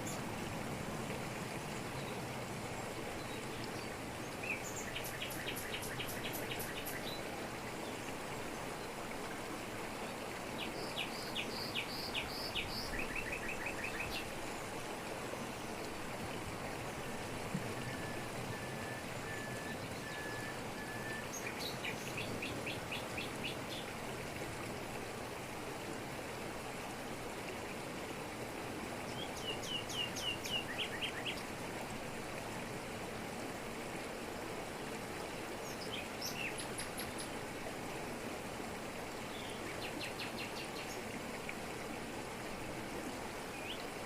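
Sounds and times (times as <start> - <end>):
waterfall pouring over rocks: 0.0 - 44.0.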